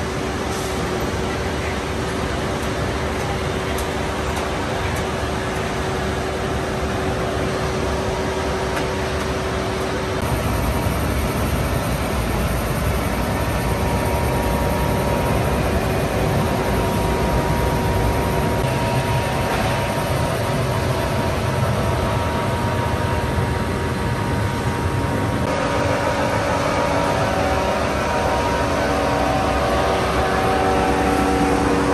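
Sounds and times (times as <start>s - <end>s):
rolling mill machinery running: 0.0s - 31.9s.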